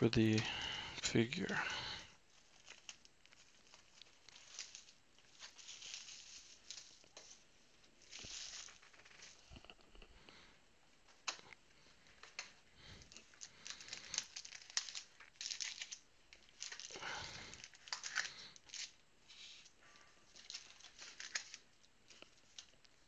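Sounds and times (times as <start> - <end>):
foil wrappers crinkling and tearing: 1.4 - 9.9, 11.1 - 23.0.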